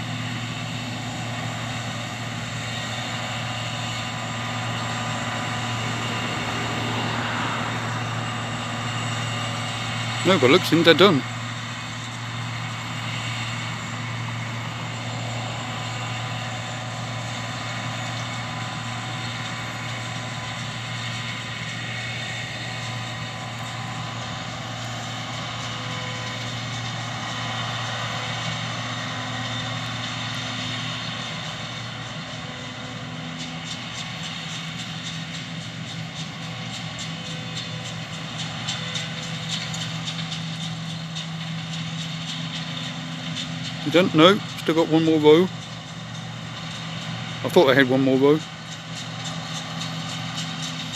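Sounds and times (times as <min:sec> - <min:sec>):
combine harvester engine humming: 0:00.0 - 0:50.9.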